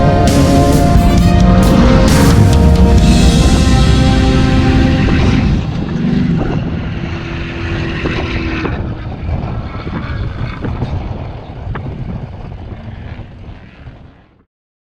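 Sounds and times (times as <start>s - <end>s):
off-road vehicle engine rumbling: 0.0s - 14.1s.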